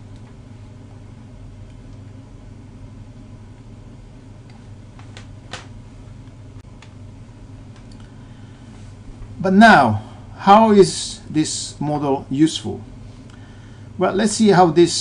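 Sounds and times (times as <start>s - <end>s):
low room tone hum: 0.0s - 15.0s.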